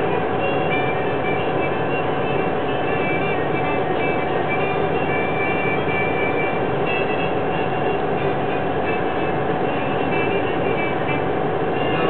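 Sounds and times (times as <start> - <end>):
freight train cars rumbling: 0.0 - 12.0
steady hum: 0.0 - 12.0.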